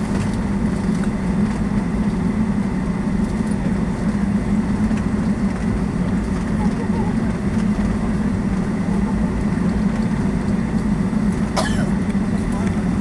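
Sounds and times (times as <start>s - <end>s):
airplane engines droning in cabin: 0.0s - 13.0s.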